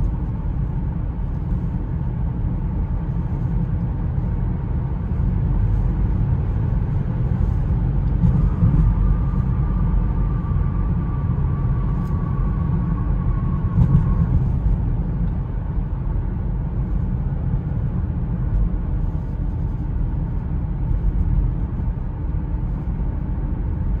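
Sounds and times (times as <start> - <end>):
car cabin low rumble: 0.0 - 24.0.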